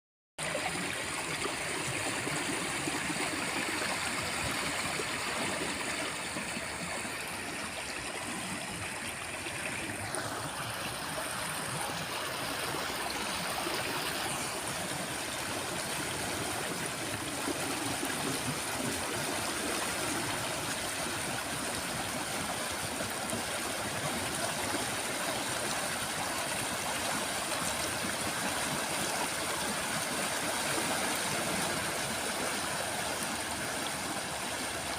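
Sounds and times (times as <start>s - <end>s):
river flowing: 0.4s - 34.9s.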